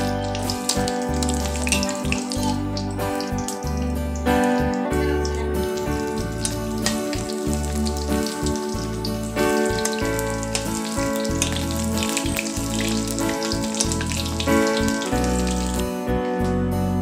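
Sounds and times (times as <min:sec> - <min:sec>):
fritters sizzling in oil: 0:00.0 - 0:16.6
background music with chords: 0:00.0 - 0:17.0.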